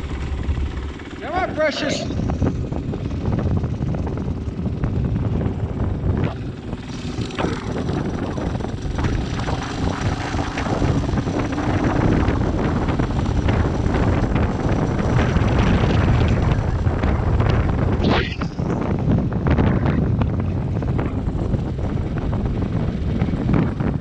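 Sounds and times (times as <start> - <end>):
motorcycle engine running: 0.0 - 24.0
rushing wind: 0.0 - 24.0.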